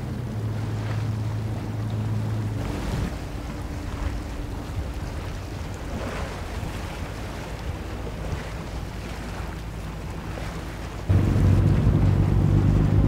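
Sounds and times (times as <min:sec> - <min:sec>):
boat engines humming: 0:00.0 - 0:13.0
choppy water: 0:00.0 - 0:13.0
wind buffeting microphone: 0:00.0 - 0:13.0.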